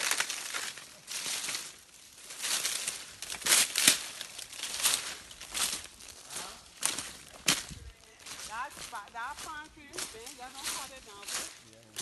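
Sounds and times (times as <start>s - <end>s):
footsteps crunching through leaves: 0.0s - 12.0s.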